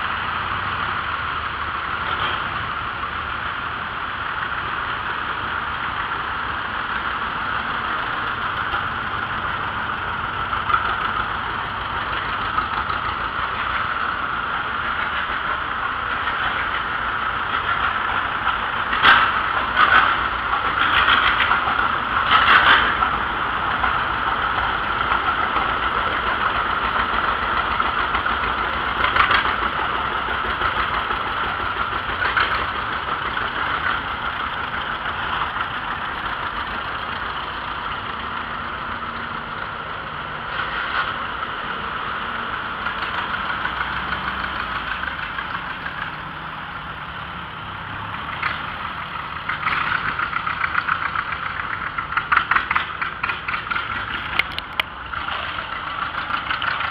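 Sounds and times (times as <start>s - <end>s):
old tractor engines passing: 0.0s - 56.9s.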